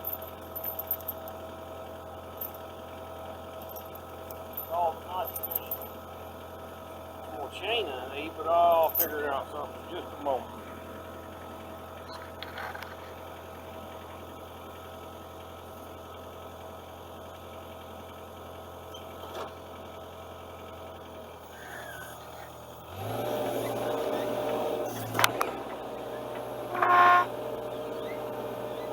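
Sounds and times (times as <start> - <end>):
diesel engine idling and revving: 0.0 - 28.9.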